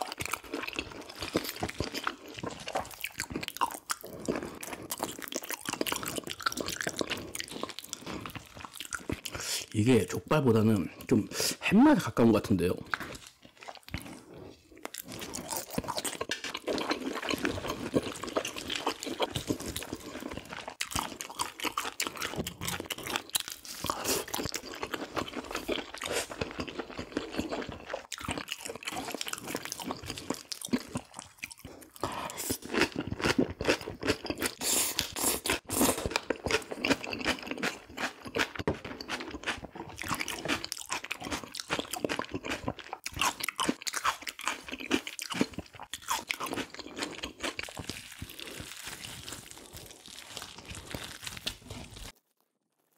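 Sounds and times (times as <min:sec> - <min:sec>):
chewing and biting: 0:00.0 - 0:09.7, 0:12.8 - 0:52.2.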